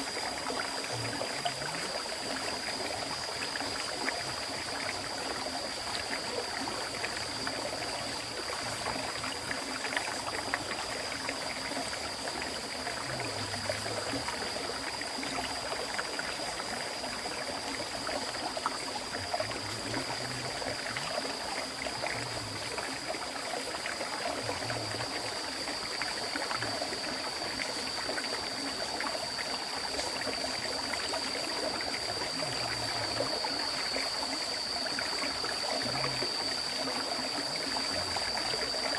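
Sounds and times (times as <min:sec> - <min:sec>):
steady high-pitched whine: 0:00.0 - 0:38.9.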